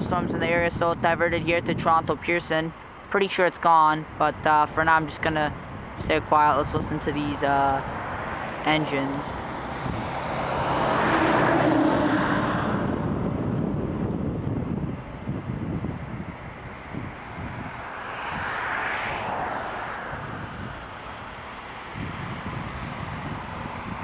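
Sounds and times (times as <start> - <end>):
jet engines at taxi power: 0.0 - 24.0.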